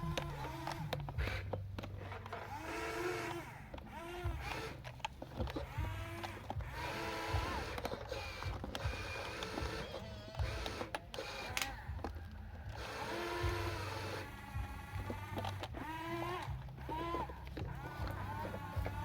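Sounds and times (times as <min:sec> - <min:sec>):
plastic clicks: 0:00.0 - 0:19.0
small electric motors whining: 0:00.0 - 0:19.0.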